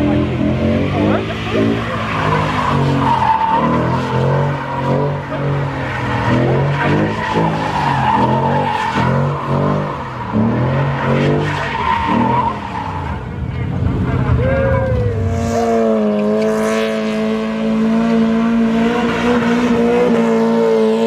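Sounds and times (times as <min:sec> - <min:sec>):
car engine revving: 0:00.0 - 0:21.0
tires squealing: 0:00.0 - 0:21.0.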